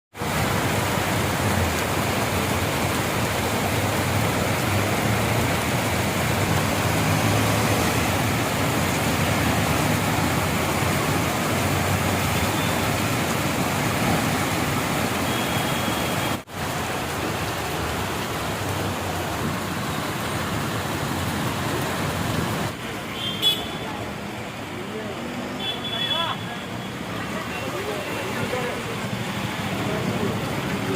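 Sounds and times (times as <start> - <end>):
heavy rain pouring: 0.1 - 30.9.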